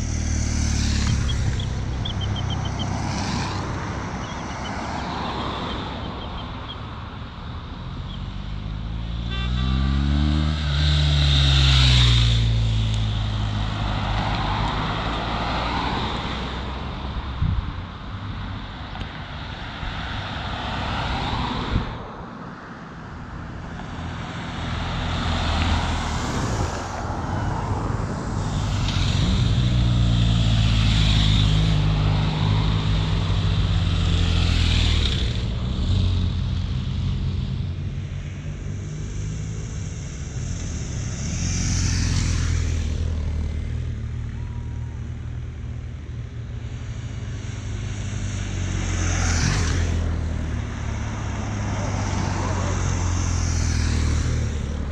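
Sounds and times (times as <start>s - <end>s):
cars and motorcycles passing: 0.0s - 54.9s.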